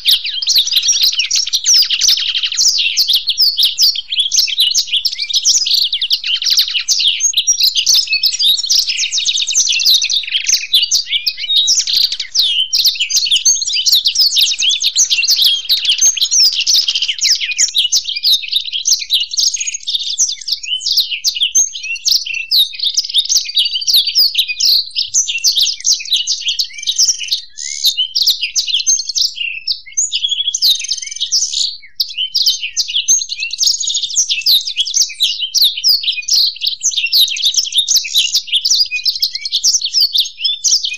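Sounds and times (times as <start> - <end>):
birds twittering song: 0.0 - 40.9.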